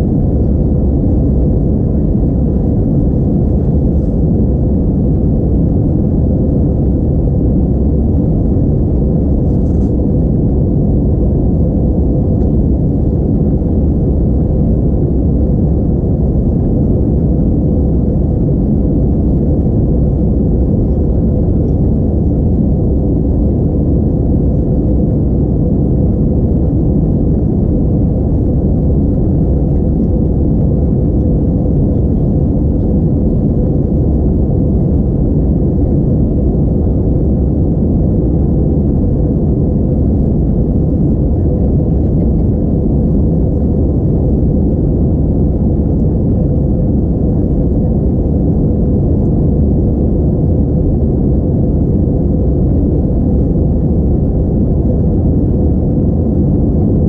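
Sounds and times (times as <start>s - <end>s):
faint steady hum: 0.0s - 57.0s
jet engines rumbling: 0.0s - 57.0s.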